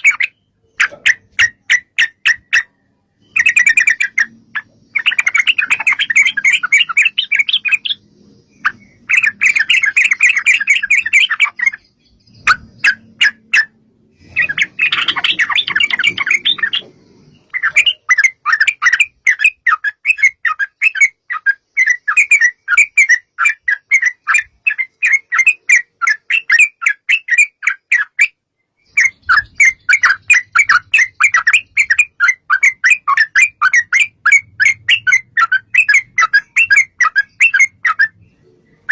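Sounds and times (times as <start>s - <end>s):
bulbul chattering calls: 0.0s - 38.9s.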